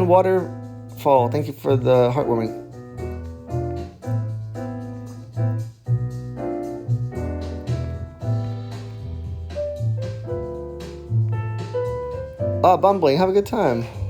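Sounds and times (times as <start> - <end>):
bass line: 0.0 - 14.0
jazz piano chords: 0.0 - 14.0.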